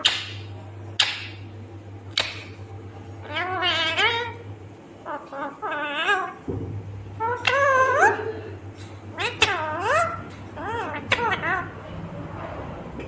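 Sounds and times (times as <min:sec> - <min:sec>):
parakeet calling: 0:00.0 - 0:12.9.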